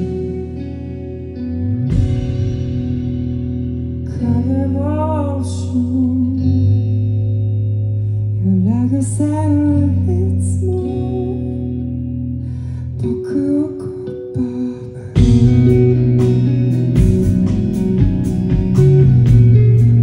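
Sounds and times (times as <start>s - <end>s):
steady low bass notes: 0.0s - 13.2s, 15.2s - 20.0s
ringing guitar chords: 0.0s - 20.0s.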